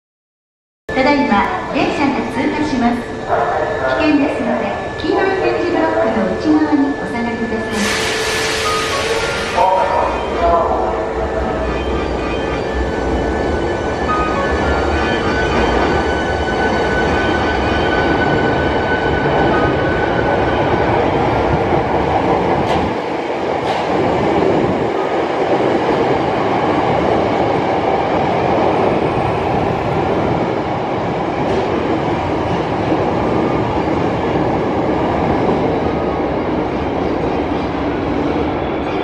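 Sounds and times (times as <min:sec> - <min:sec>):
train rumbling through station: 0:00.9 - 0:39.0.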